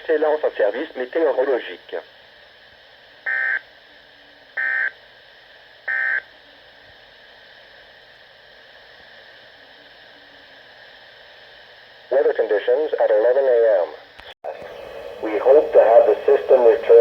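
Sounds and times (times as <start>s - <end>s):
radio hiss: 0.0s - 17.0s.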